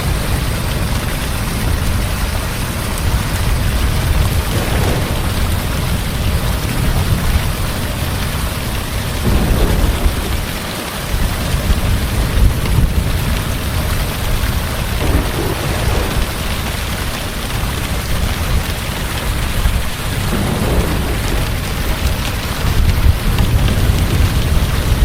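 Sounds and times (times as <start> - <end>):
heavy rain falling: 0.0 - 25.0
rolling thunder rumble: 3.0 - 25.0.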